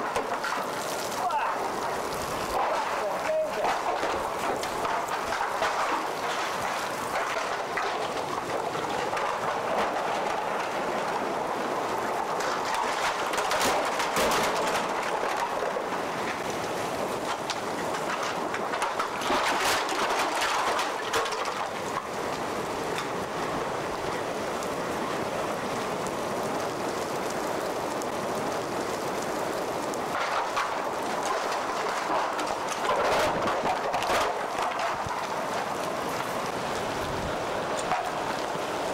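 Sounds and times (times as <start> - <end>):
rain blowing: 0.0 - 38.9
strong wind: 0.0 - 38.9.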